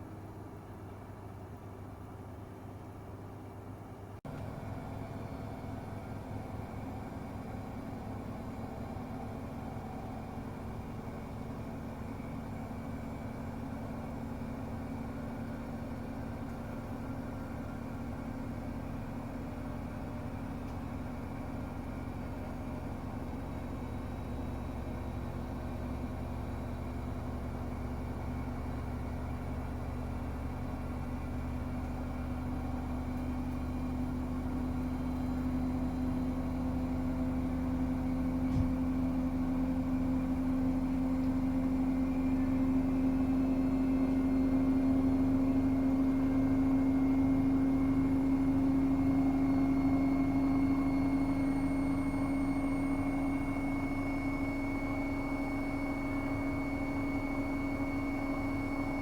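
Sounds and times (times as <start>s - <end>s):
washing machine motor whine: 4.3s - 59.0s.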